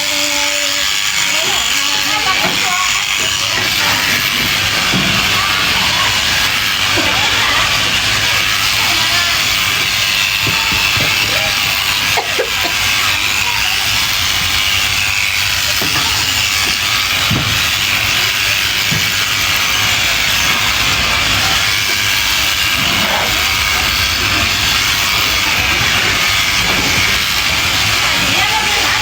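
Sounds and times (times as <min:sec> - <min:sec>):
sheep shears running: 0:00.0 - 0:29.0.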